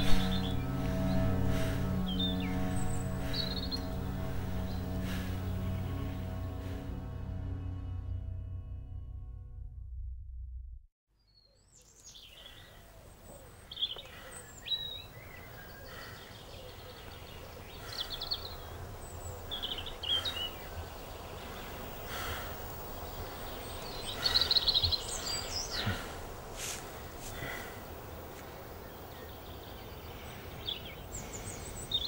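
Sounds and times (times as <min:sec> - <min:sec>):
songbirds chirping and whistling: 0:00.0 - 0:06.6, 0:11.3 - 0:32.0
steady outdoor hush: 0:00.0 - 0:09.2, 0:12.0 - 0:32.0.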